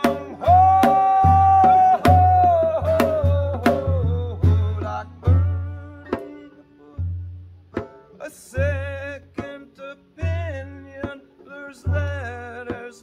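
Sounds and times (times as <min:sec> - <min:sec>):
deep drum beats: 0:00.0 - 0:13.0
plucked guitar and banjo: 0:00.0 - 0:13.0.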